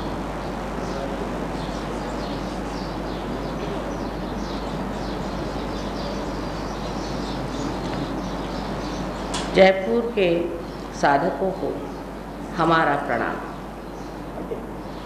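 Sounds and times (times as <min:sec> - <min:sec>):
low mains hum: 0:00.0 - 0:15.0
small birds chirping: 0:00.0 - 0:15.0.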